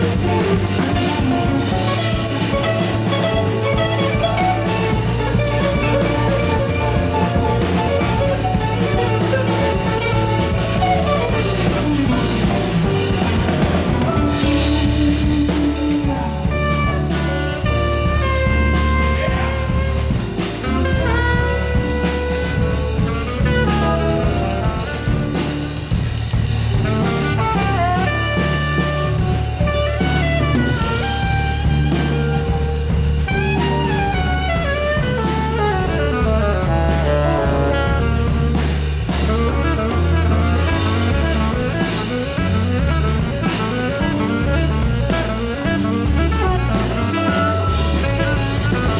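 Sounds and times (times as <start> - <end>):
busy drumming: 0.0 - 48.9
fast lead melody runs: 0.0 - 48.9
jazz fusion band playing: 0.0 - 48.9
steady bass line: 0.0 - 48.9.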